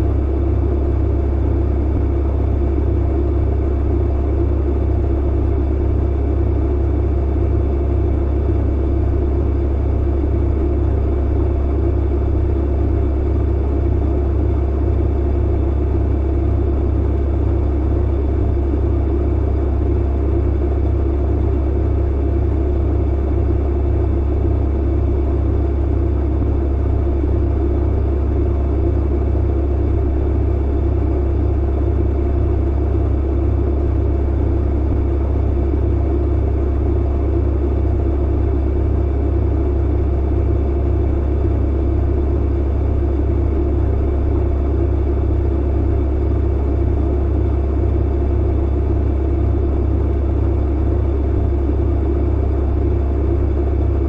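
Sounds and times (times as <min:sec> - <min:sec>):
clothes dryer humming and tumbling: 0:00.0 - 0:54.0.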